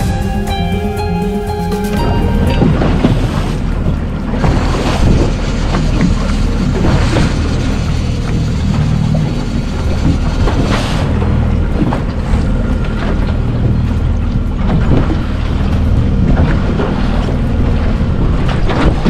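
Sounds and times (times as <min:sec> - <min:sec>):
outboard motor humming: 0:00.0 - 0:19.0
water lapping against boat hull: 0:02.0 - 0:19.0
wind buffeting microphone: 0:02.0 - 0:19.0.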